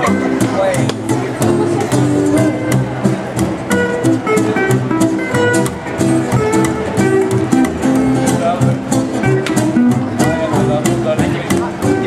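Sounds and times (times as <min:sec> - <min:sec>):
acoustic guitars strumming: 0:00.0 - 0:12.0
plucked double bass: 0:00.0 - 0:12.0.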